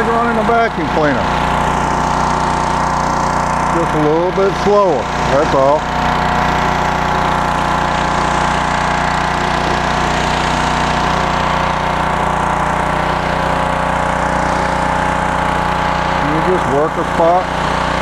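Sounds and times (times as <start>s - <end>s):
pressure washer engine drone: 0.0s - 18.0s.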